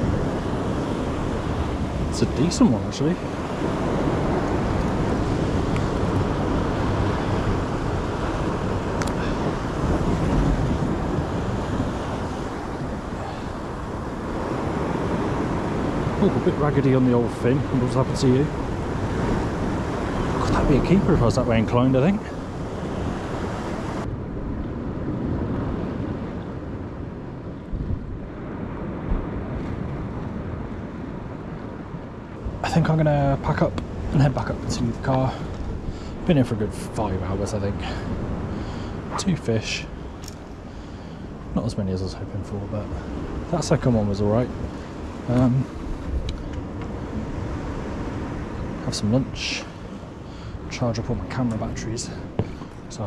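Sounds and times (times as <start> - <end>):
sea surf against rocks: 0.0 - 53.0
wind rumbling on microphone: 0.0 - 53.0.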